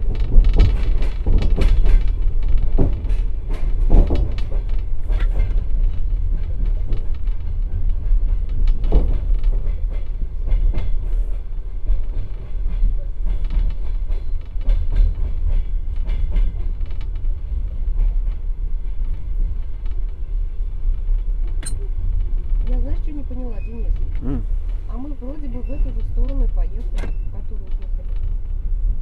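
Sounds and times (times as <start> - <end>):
train car rumbling: 0.0 - 29.0.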